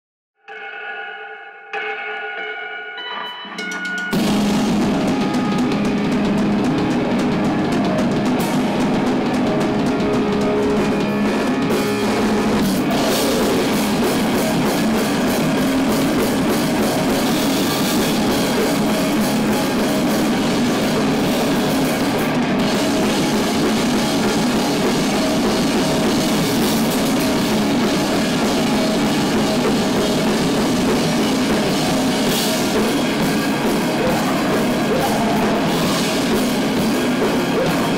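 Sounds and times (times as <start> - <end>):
rock band playing: 3.0 - 37.9.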